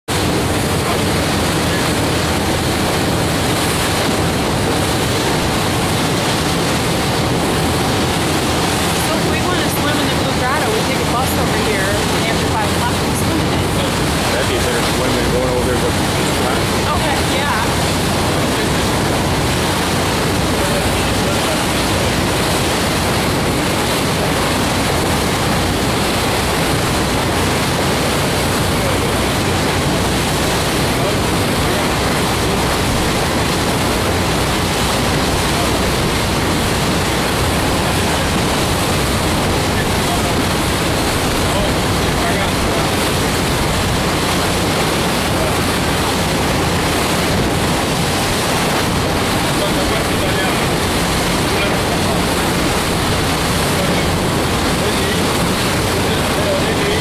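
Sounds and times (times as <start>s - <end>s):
boat engine running: 0.0s - 57.0s
water rushing past boat: 0.0s - 57.0s
wind on microphone: 0.0s - 57.0s.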